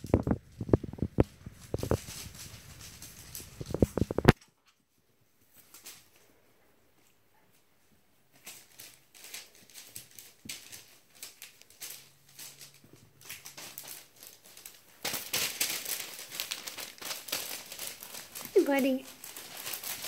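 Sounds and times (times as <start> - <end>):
paper crinkling under puppies: 0.0 - 20.0.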